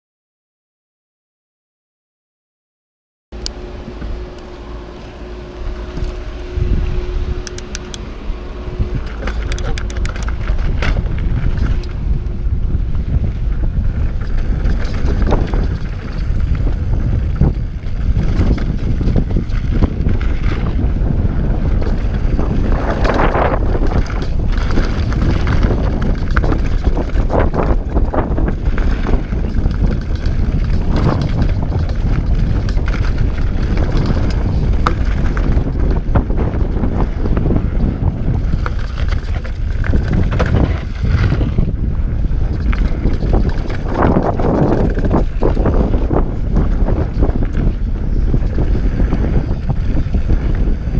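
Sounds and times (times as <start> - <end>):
bike tyres rolling on gravel: 3.4 - 50.9
wind rushing over microphone: 3.4 - 50.9
bike rattling clicks and knocks: 5.7 - 50.9.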